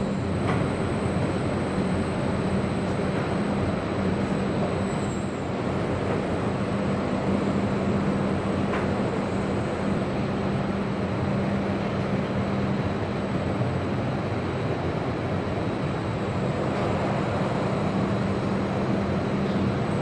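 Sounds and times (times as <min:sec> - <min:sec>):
factory machinery rumble: 0:00.0 - 0:20.0
steady low hum: 0:00.0 - 0:20.0.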